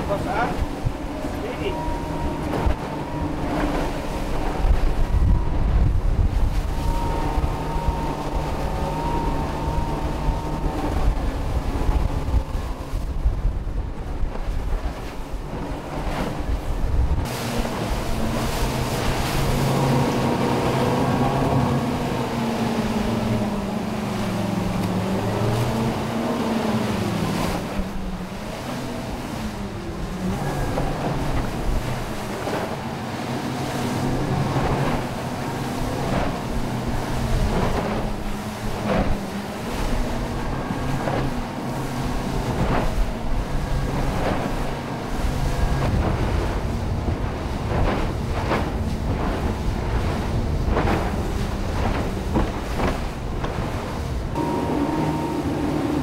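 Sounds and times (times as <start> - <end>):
boat engine drone: 0.0 - 56.0
hull splashing on waves: 0.0 - 56.0
outboard motors running: 0.0 - 56.0
rushing water: 0.0 - 56.0
wind: 0.0 - 56.0.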